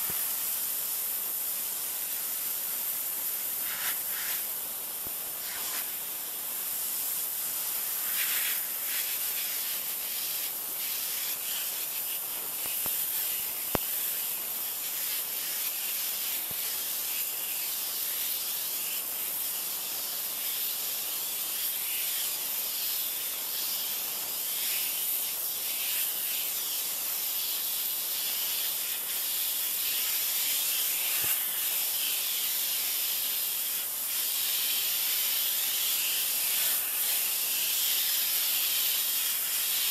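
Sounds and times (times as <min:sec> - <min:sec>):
pressure washer spray hiss: 0:00.0 - 0:39.9.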